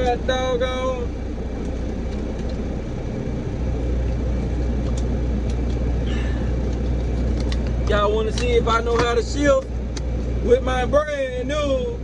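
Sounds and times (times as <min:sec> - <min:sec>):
diesel engine rumble from cab: 0:00.0 - 0:12.0.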